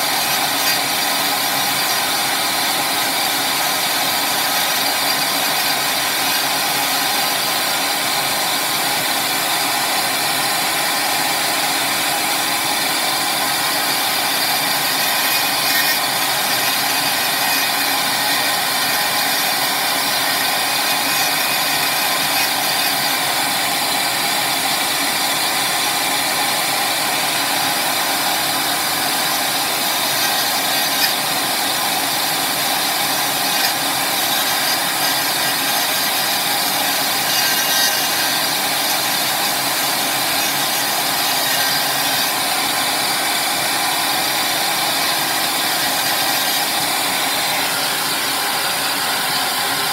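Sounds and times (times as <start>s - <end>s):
rotary tool cutting plastic: 0.0s - 49.9s.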